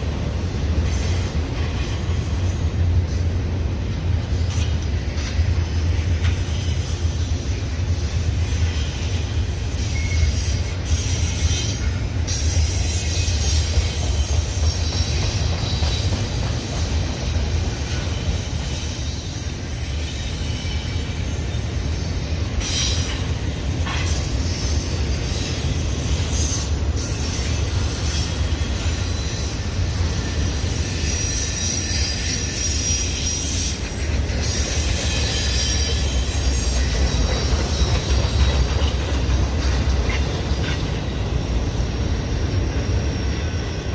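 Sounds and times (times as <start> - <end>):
train wheels rumbling on rail: 0.0 - 43.9
high wheel squeal: 5.2 - 23.3, 23.9 - 39.0, 39.6 - 43.9.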